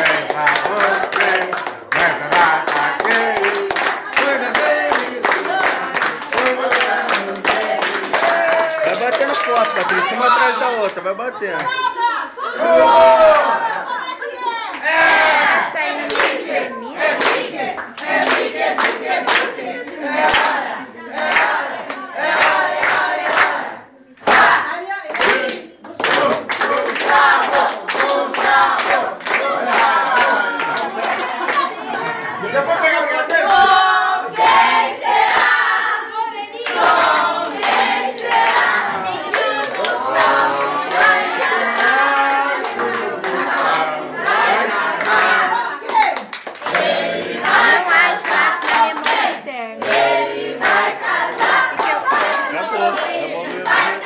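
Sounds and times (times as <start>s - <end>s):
group singing: 0.0s - 9.1s, 12.0s - 54.0s
people clapping in time: 0.0s - 11.8s, 14.7s - 16.5s, 17.2s - 32.6s, 36.6s - 54.0s.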